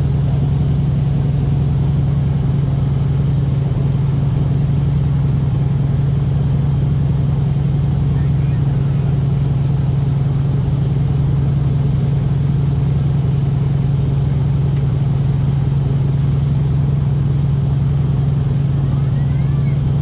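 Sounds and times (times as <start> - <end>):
airboat engine and propeller drone: 0.0 - 20.0.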